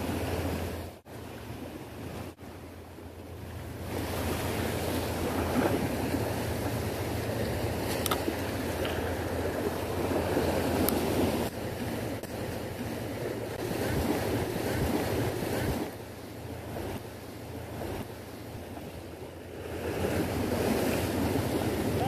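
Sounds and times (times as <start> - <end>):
wind rumbling on microphone: 0.0 - 22.0
waves breaking on rocks: 3.6 - 22.0.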